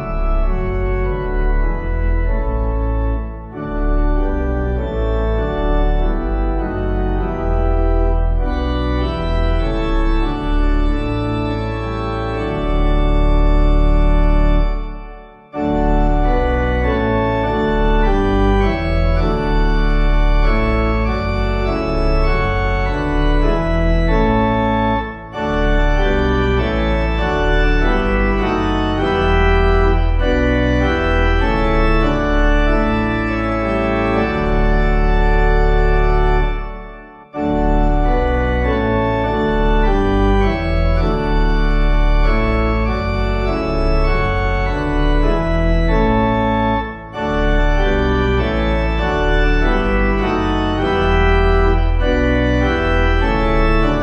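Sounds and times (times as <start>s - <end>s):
organ playing a hymn: 0.0s - 54.0s.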